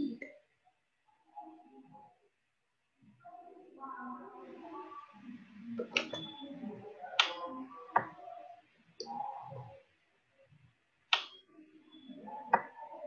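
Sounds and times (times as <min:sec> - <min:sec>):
faint indistinct voices: 0:01.0 - 0:13.0.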